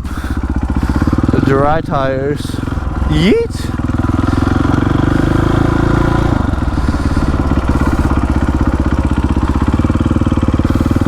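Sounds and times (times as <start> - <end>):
motorcycle engine: 0.0 - 11.0.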